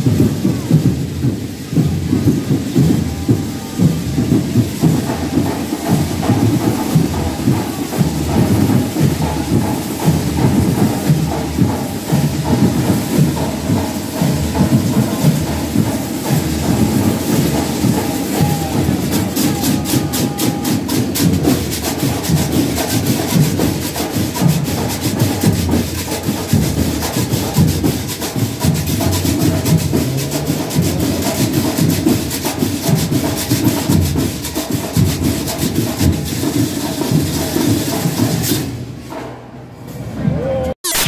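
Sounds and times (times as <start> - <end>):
marching band drums: 0.0 - 39.9.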